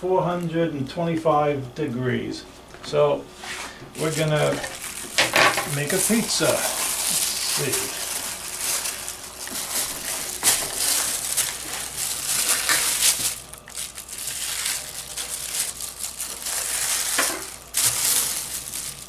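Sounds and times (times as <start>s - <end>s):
plastic wrap crinkling: 3.4s - 19.0s.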